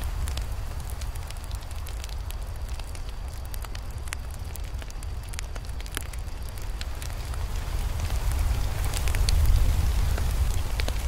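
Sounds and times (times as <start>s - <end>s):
burning wood crackling: 0.0s - 11.0s
low fire rumble: 0.0s - 11.0s.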